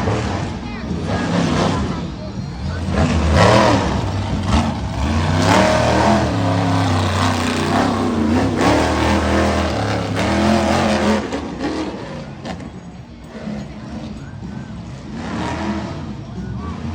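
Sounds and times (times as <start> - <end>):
monster truck engine revving: 0.0 - 16.9.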